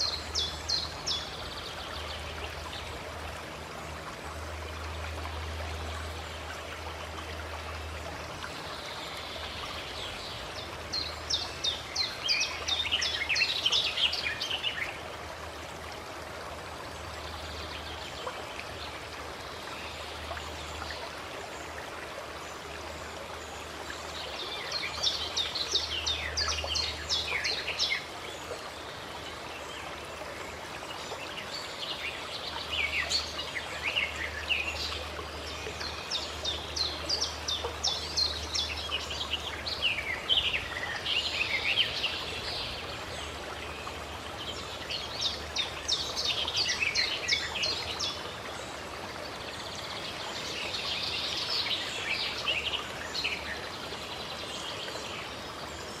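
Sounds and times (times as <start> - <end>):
flowing stream: 0.0 - 56.0
songbirds chirping: 0.0 - 56.0.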